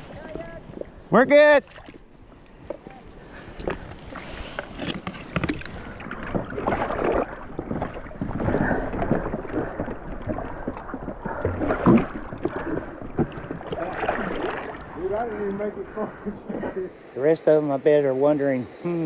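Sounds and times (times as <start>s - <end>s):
water splashes: 0.0s - 17.1s.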